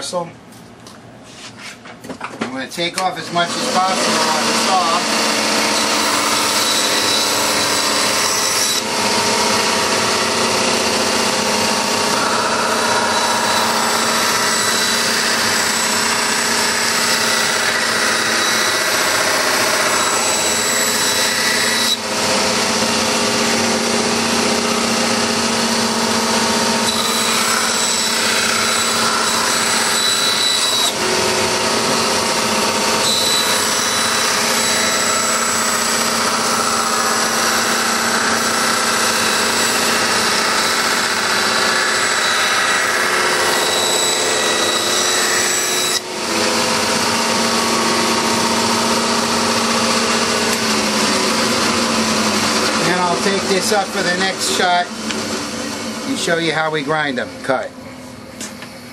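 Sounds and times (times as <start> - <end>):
power tool humming and whining: 3.1 - 56.8.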